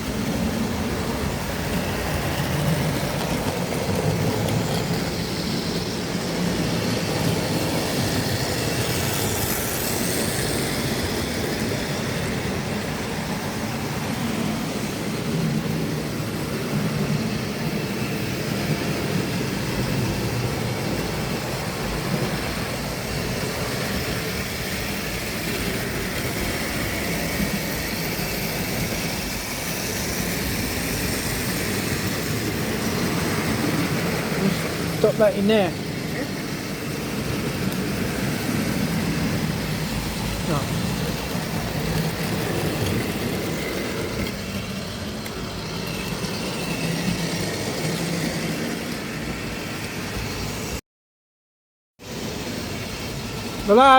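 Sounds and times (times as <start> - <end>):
model train motor whirring: 0.0 - 50.7.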